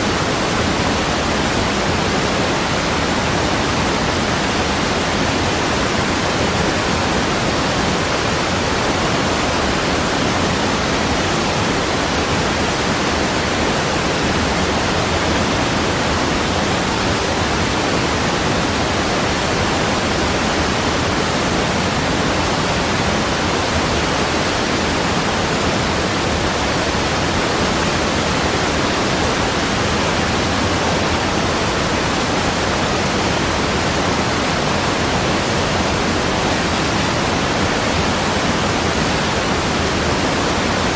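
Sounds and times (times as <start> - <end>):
rushing water roar: 0.0 - 40.9.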